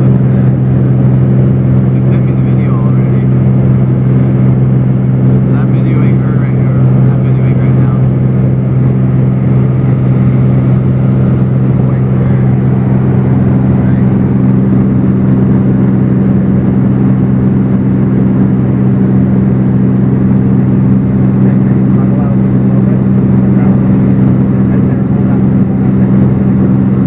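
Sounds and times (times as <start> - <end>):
aircraft engine droning: 0.0 - 27.0.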